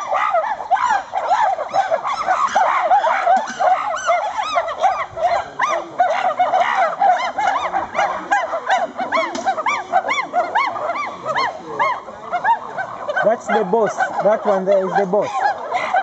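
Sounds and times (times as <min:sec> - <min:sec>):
chorus of animal hoots: 0:00.0 - 0:16.0.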